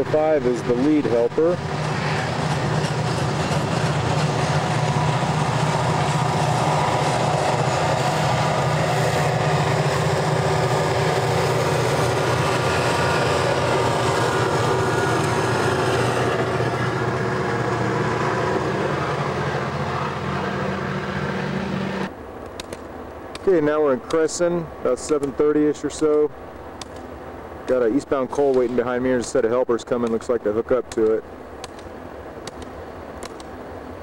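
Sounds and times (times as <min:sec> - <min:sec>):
diesel locomotive engine drone: 0:00.0 - 0:34.0
train rumble: 0:00.0 - 0:34.0.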